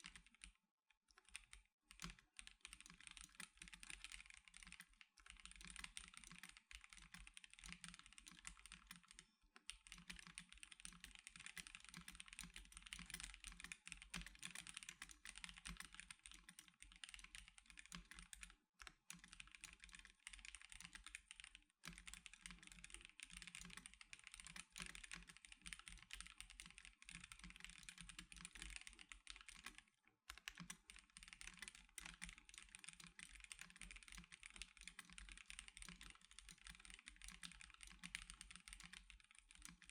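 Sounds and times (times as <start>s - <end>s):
mechanical keyboard typing: 0.0s - 0.5s, 1.2s - 39.9s.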